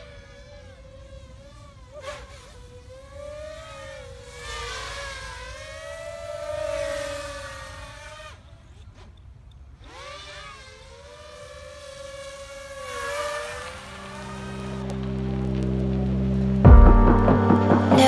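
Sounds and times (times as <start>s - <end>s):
quadcopter motors whining: 0.0s - 16.2s.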